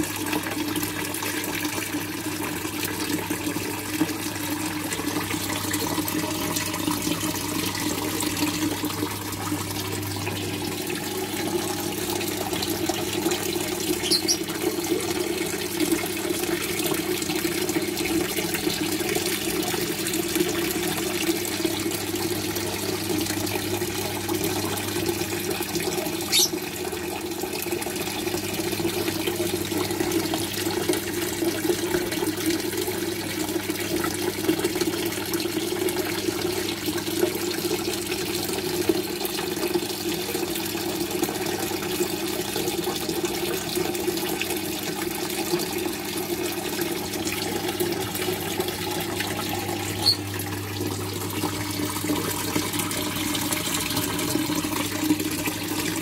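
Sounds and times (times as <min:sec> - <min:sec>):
water splashing into a tank: 0:00.0 - 0:56.0.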